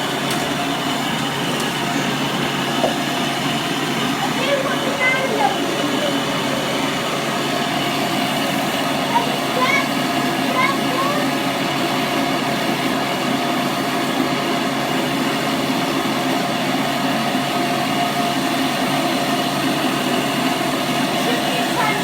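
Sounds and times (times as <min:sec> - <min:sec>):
upright vacuum cleaner running: 0:00.0 - 0:22.0.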